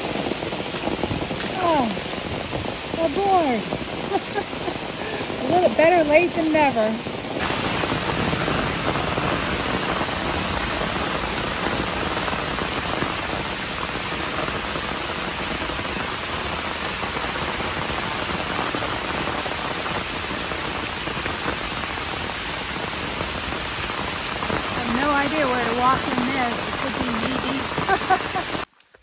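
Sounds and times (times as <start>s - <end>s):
heavy rain on water: 0.0s - 28.8s.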